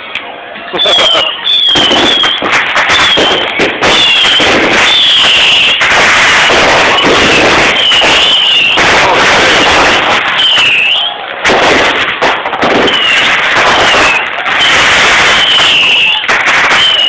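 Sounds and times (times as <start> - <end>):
fireworks crackling and popping: 0.0 - 17.0
fireworks falling whistles: 0.7 - 17.0.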